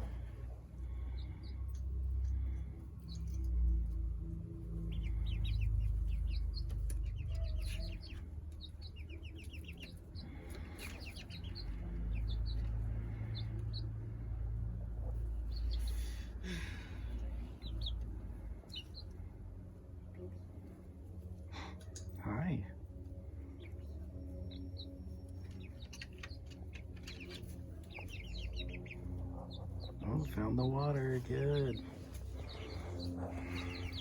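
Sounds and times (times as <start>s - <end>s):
chicks peeping: 0.0s - 22.6s, 23.2s - 34.0s
low steady rumble: 0.0s - 34.0s.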